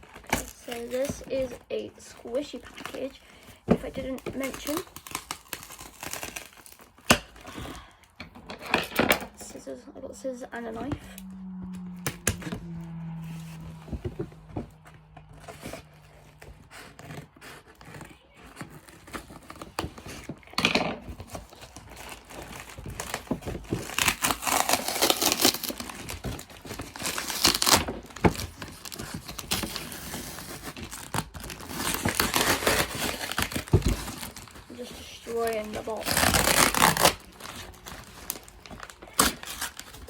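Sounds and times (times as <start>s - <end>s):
cardboard tearing and crinkling: 0.0s - 8.4s, 10.7s - 40.0s.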